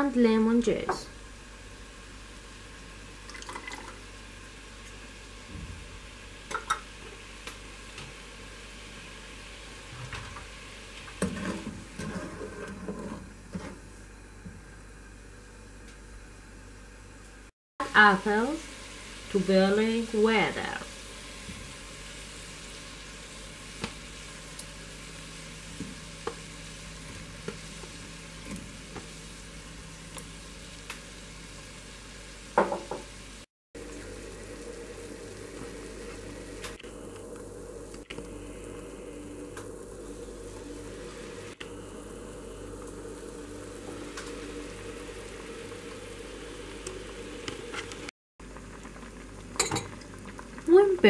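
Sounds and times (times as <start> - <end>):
sugar water boiling in a pan: 0.0 - 16.8, 17.4 - 51.0.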